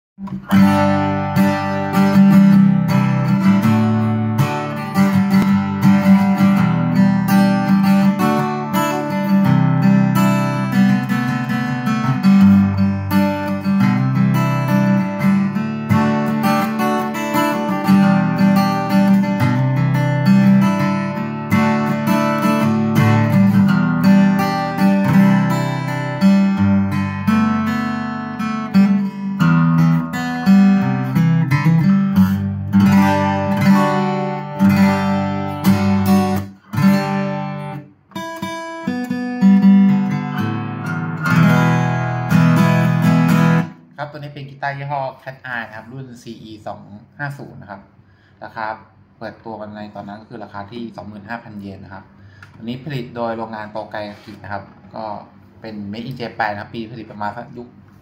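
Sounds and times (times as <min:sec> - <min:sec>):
acoustic guitar fingerstyle: 0:00.2 - 0:46.3, 0:52.2 - 0:58.0.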